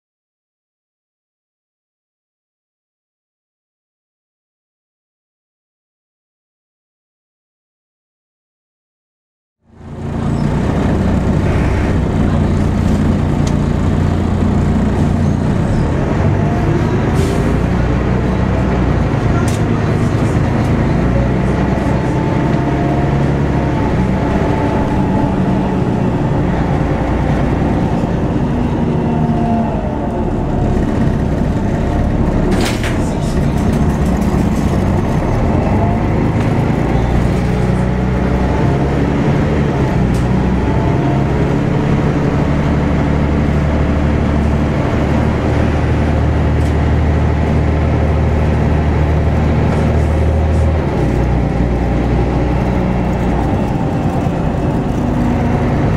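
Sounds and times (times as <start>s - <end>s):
bus diesel engine running: 9.6s - 55.9s.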